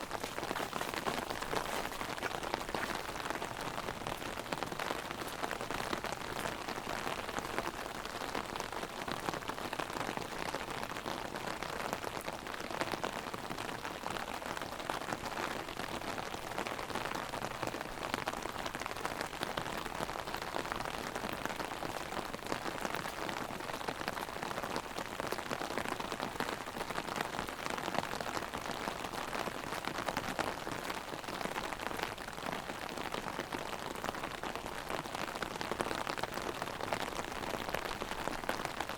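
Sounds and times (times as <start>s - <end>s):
rain pattering on an umbrella: 0.0s - 38.9s.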